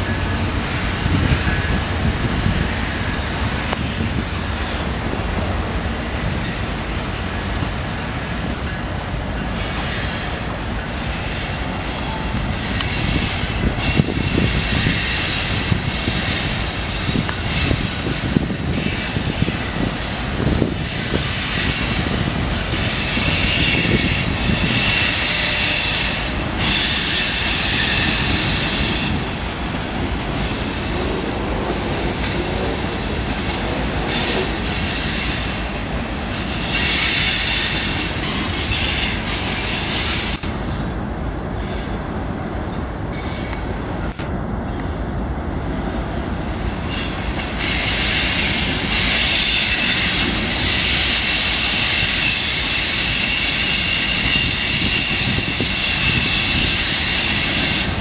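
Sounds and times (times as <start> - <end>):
freight train rumbling and clattering: 0.0 - 58.0.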